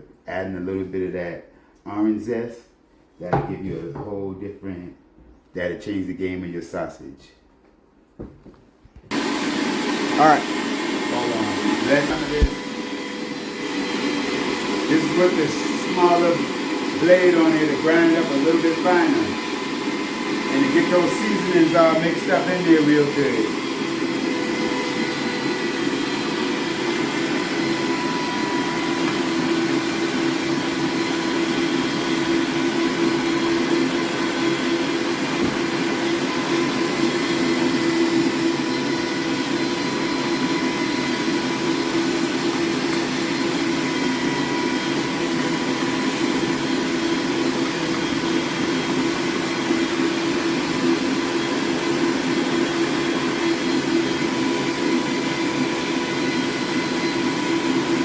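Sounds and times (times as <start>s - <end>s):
electric meat grinder motor hum: 9.1s - 58.0s.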